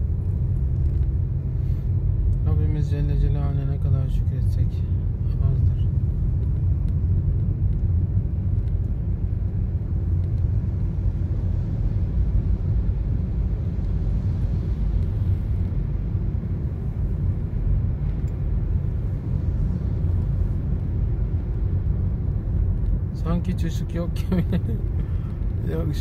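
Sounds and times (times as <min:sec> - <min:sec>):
car driving heard from inside: 0:00.0 - 0:26.0.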